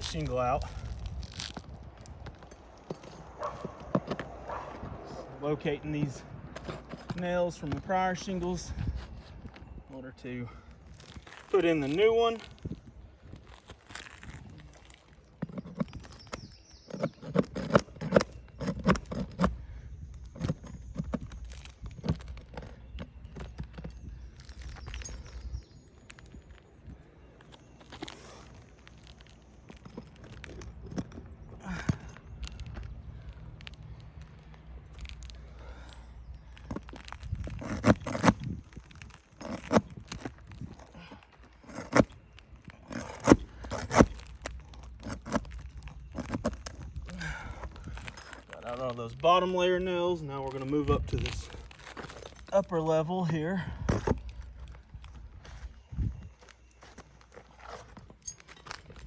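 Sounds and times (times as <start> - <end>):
metal scraping against shingles: 0.0 - 59.0.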